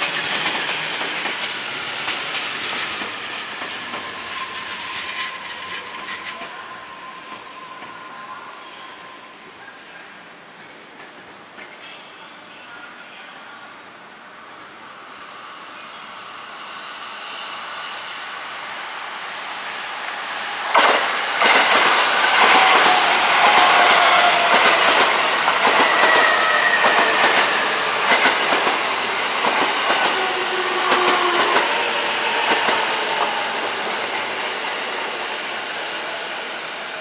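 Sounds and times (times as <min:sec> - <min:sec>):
train passing: 0:00.0 - 0:12.0, 0:14.1 - 0:37.0.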